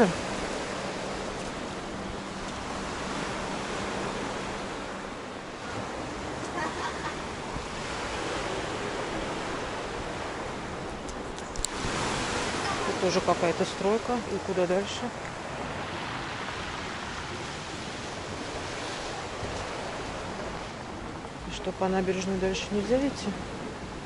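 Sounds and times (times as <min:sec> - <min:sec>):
sea surf washing: 0:00.0 - 0:24.0
wind: 0:00.0 - 0:24.0.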